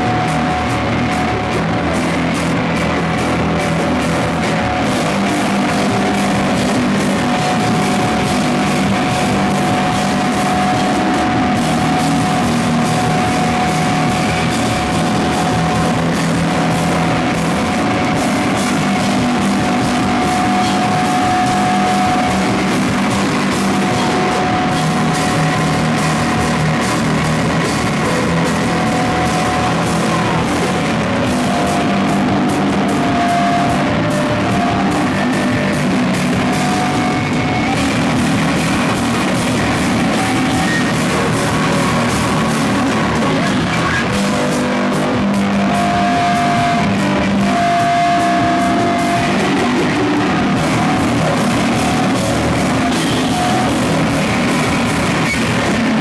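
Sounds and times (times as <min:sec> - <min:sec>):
rock band playing live: 0:00.0 - 0:56.0
steady high tone: 0:00.0 - 0:56.0.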